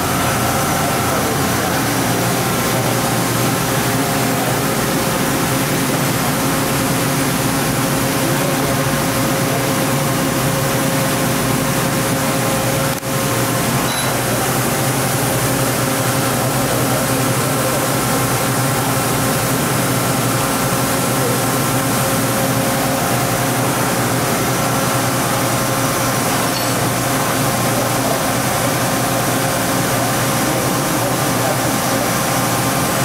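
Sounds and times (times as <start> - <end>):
machine hum with constant tones: 0.0 - 33.0.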